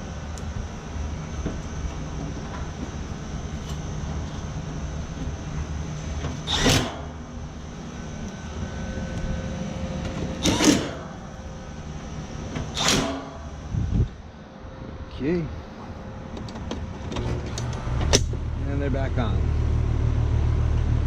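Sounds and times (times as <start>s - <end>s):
air conditioner units humming: 0.0s - 21.0s.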